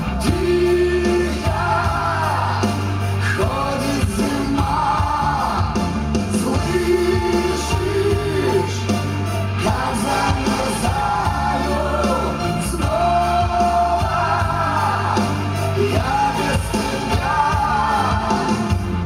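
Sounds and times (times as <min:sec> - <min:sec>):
pop ballad singing: 0:00.0 - 0:19.0
steady low bass: 0:00.0 - 0:19.0.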